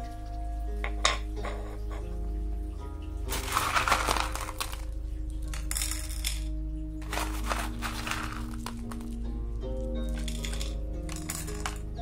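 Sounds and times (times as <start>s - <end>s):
background music with held notes: 0.0s - 12.0s
small stones clinking in ceramic pot: 0.8s - 2.1s, 3.3s - 12.0s.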